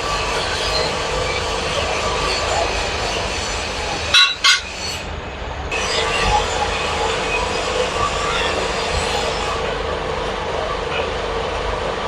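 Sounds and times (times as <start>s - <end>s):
workshop machinery humming: 0.0s - 12.0s.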